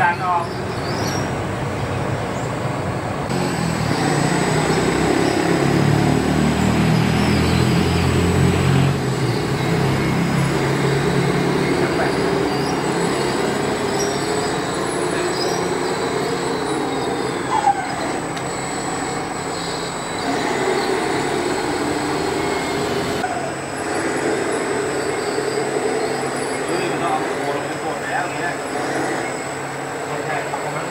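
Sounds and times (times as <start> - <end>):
electric motors whirring: 3.1 - 30.9.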